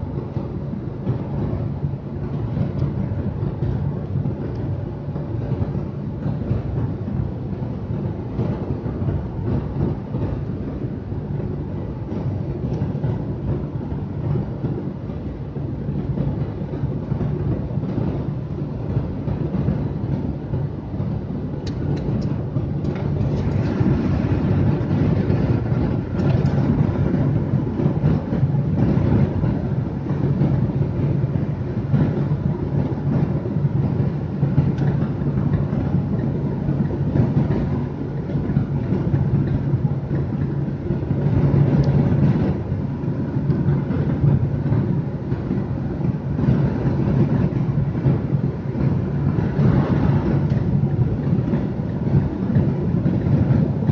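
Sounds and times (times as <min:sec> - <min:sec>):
engine drone: 0:00.0 - 0:53.9.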